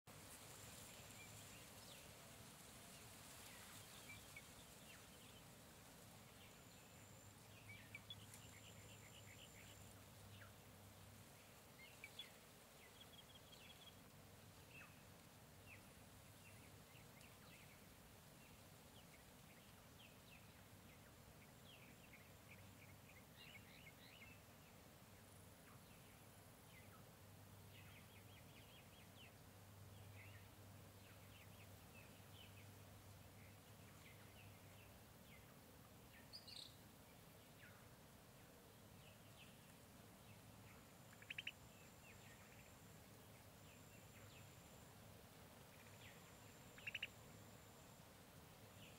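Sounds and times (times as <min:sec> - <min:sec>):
birds chirping: 0:00.7 - 0:48.0.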